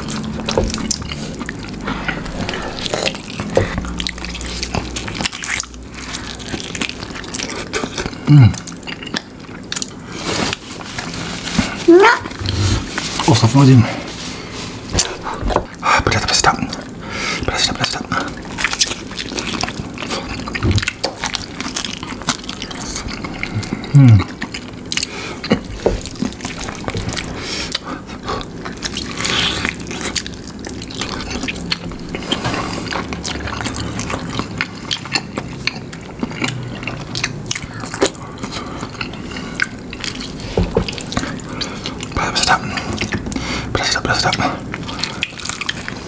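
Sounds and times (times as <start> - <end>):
wet chewing: 0.0 - 13.8, 14.4 - 46.0.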